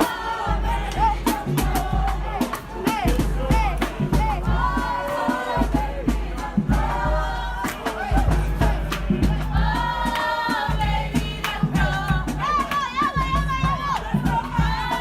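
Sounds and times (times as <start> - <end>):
quick percussive beat: 0.0 - 15.0
voices singing together: 0.0 - 15.0.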